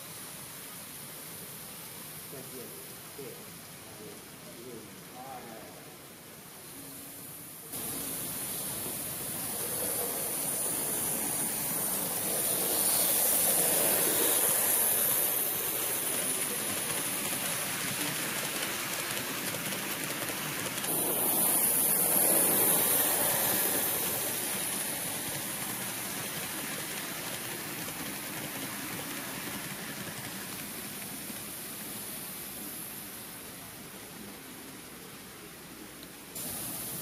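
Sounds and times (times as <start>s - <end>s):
model train wheels rolling: 6.7s - 37.0s.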